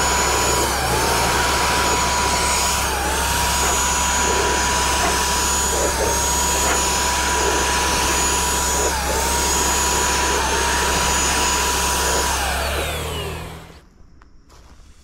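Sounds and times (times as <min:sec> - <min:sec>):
paint sprayer motor whining: 0:00.0 - 0:13.8.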